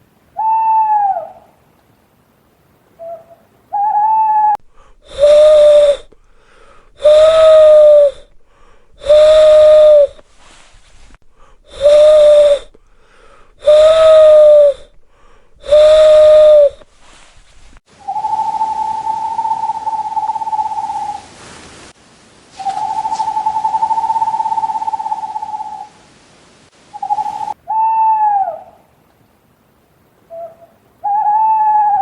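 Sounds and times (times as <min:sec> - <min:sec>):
owl calling: 0:00.4 - 0:01.6, 0:03.0 - 0:21.3, 0:22.6 - 0:26.0, 0:26.9 - 0:28.9, 0:30.3 - 0:32.0.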